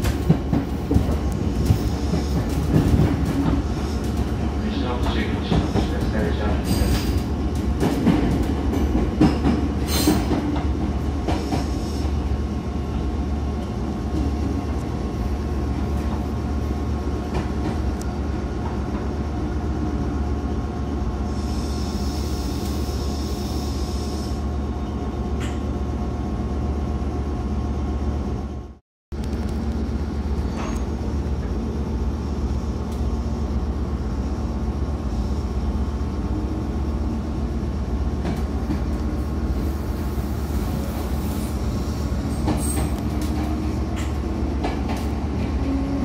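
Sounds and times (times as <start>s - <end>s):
electric train low hum: 0.0s - 46.0s.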